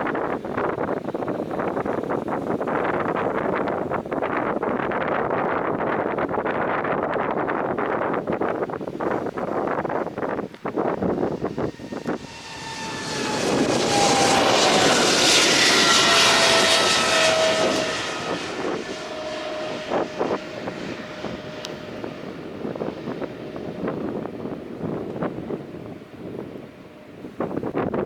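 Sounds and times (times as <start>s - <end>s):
jet engines passing with whine: 0.0s - 28.0s
wind buffeting microphone: 0.0s - 28.0s.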